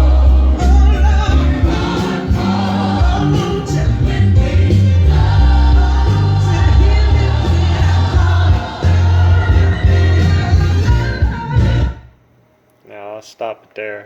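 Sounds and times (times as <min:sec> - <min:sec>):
choir singing gospel: 0:00.0 - 0:12.1.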